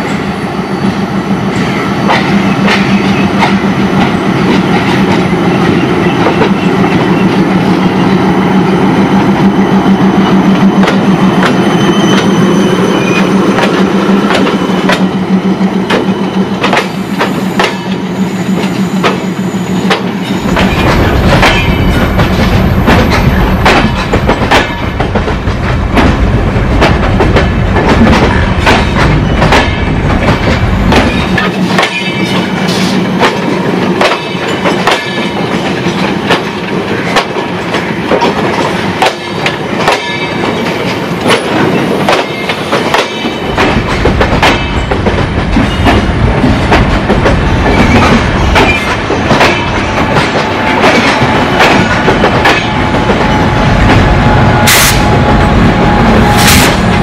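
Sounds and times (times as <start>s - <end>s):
train wheels clacking: 1.5s - 57.0s.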